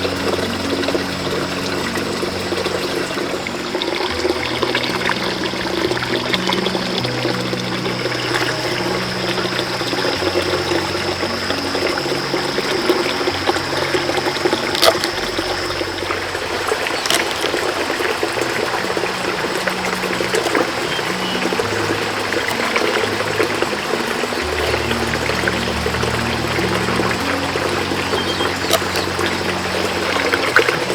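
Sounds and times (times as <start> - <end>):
soft background music: 0.0 - 30.9
water running: 0.0 - 30.9.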